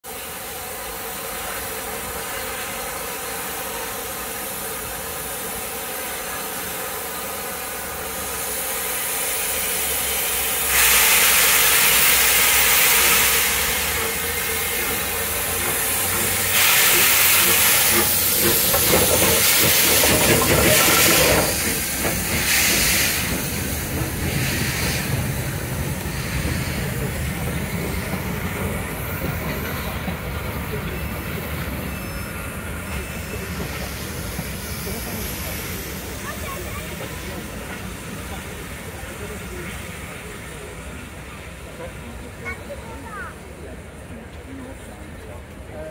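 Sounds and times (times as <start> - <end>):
steam hissing: 0.1 - 44.2
locomotive rumbling: 8.9 - 45.9.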